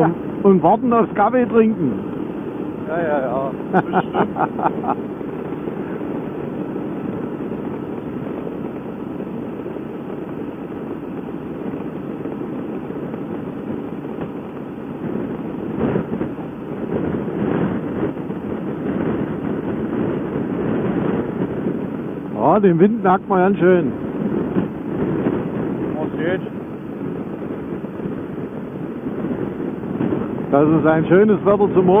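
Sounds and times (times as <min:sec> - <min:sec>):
motorcycle engine: 0:00.0 - 0:32.0
road noise: 0:00.0 - 0:32.0
wind rushing over microphone: 0:00.0 - 0:32.0.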